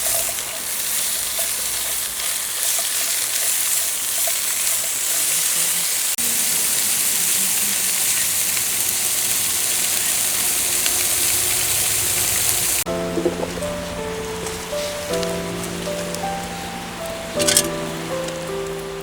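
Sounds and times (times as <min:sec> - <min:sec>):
food sizzling on hot metal: 0:00.0 - 0:19.0.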